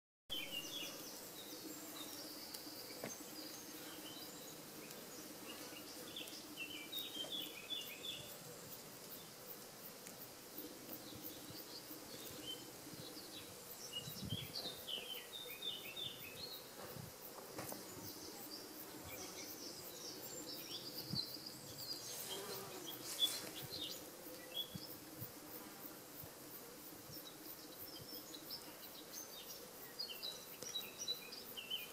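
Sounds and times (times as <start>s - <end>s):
small birds chirping: 0.3s - 25.3s, 26.8s - 31.9s.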